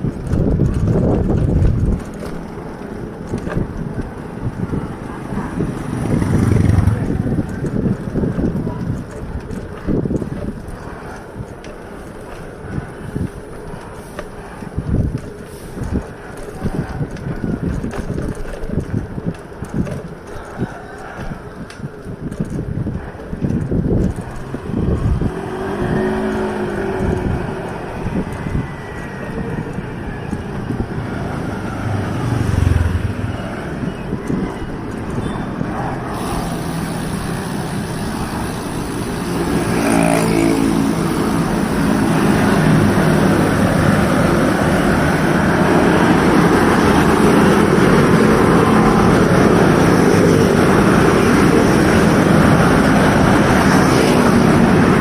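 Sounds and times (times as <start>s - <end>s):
vehicles passing: 0.0s - 55.0s
wind and road noise: 0.0s - 55.0s.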